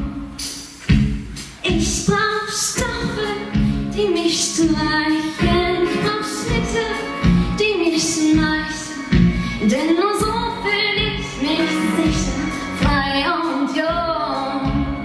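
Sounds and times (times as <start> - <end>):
woman singing into a microphone: 1.6 - 15.0.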